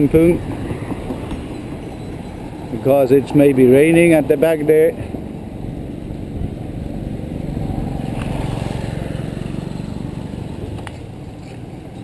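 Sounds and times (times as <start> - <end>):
motorcycle passing: 0.0 - 12.0
road and wind noise: 0.0 - 12.0.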